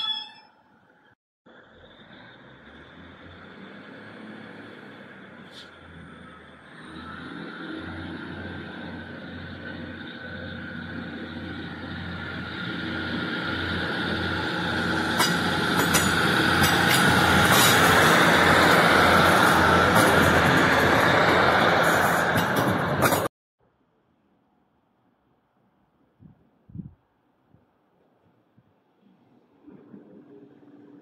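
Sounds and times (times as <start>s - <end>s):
train engine drone: 0.0s - 23.3s, 29.0s - 31.0s.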